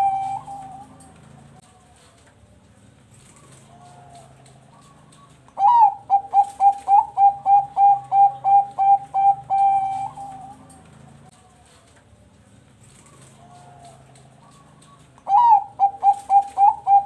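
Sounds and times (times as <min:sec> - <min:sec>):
dove cooing: 0:00.0 - 0:02.2, 0:03.2 - 0:11.8, 0:12.8 - 0:17.0.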